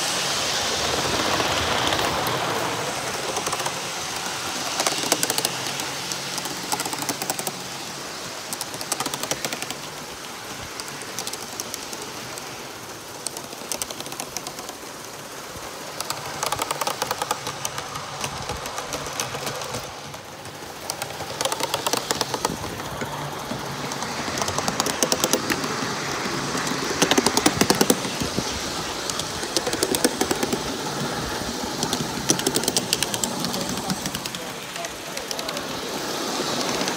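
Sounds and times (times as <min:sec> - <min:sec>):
model train running: 0:00.0 - 0:36.9
wheels clicking on track: 0:00.0 - 0:36.9.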